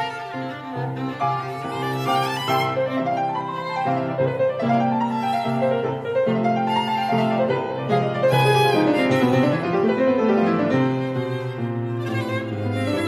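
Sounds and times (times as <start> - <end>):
bowed string melody: 0.0 - 13.0
piano: 0.0 - 13.0.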